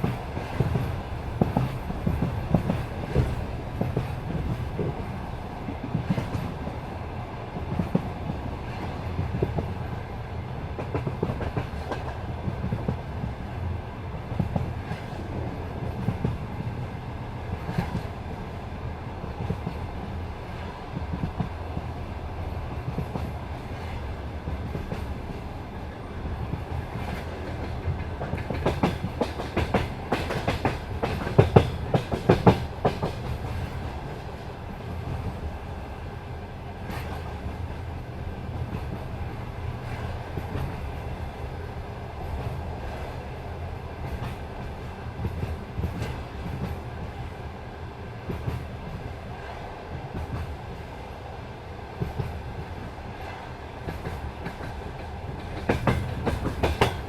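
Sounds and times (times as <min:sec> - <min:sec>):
train wheels clicking over rails: 0:00.0 - 0:18.6, 0:19.2 - 0:36.0, 0:36.7 - 0:57.0
low train rumble: 0:00.0 - 0:57.0.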